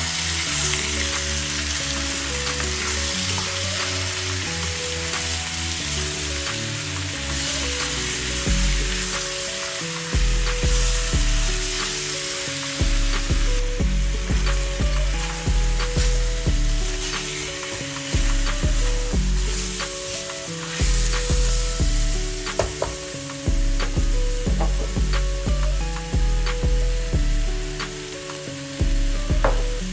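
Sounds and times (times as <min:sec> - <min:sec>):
music with pulsing bass: 0:00.0 - 0:09.5, 0:10.1 - 0:12.0, 0:12.8 - 0:20.0, 0:20.8 - 0:28.2, 0:28.8 - 0:29.9
meat sizzling in a wok: 0:00.0 - 0:29.9.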